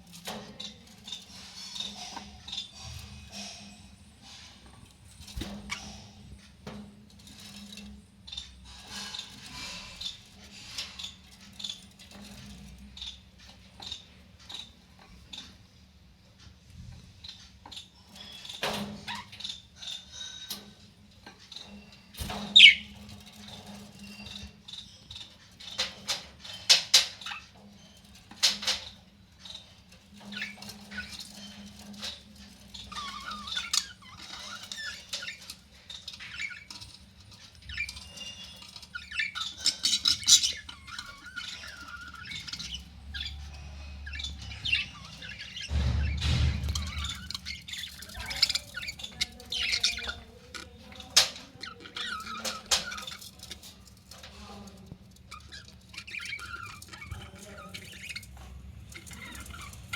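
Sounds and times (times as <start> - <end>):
budgerigars chirping and squawking: 0.2 - 15.8, 16.6 - 59.9.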